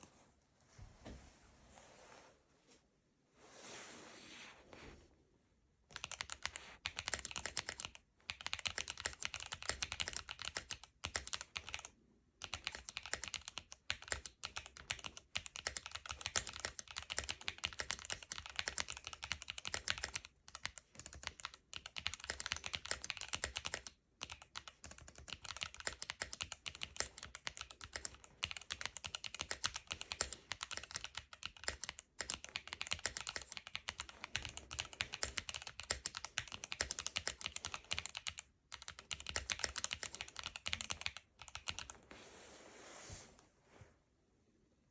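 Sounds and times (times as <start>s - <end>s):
mechanical keyboard typing: 5.9s - 41.9s.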